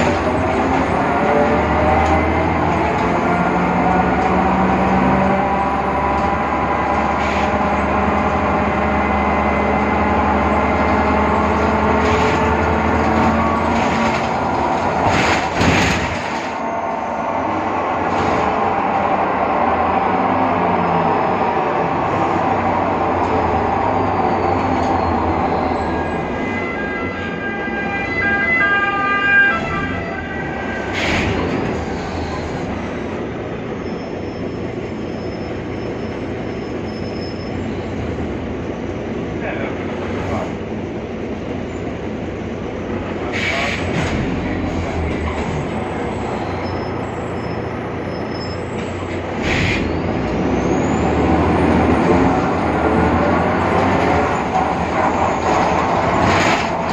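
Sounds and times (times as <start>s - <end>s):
bus drive noise: 0.0s - 56.9s.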